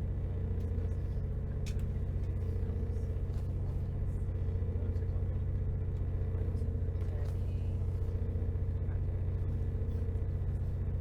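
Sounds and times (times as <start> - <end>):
train rumbling from inside carriage: 0.0 - 11.0.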